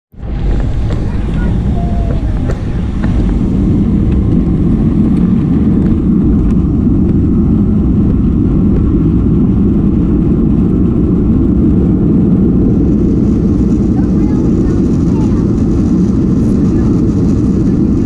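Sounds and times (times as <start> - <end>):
jet engines rumbling on takeoff: 0.1 - 18.0.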